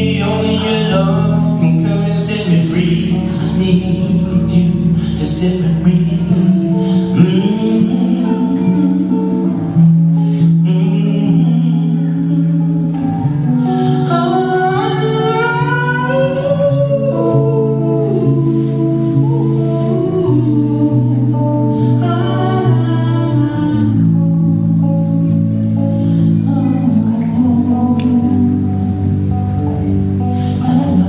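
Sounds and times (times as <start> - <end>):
man singing long sliding notes: 0.0 - 25.1, 26.0 - 31.0
electric bass notes: 0.0 - 31.0.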